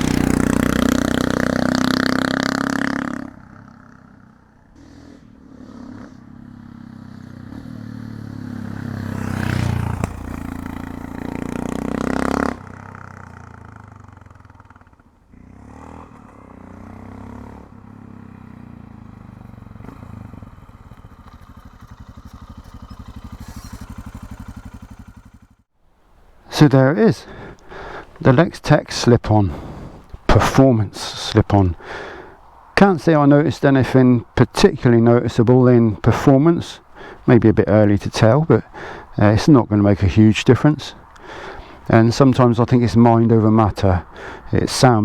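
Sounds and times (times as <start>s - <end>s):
motorcycle engine passing: 0.0s - 25.7s, 28.9s - 45.0s.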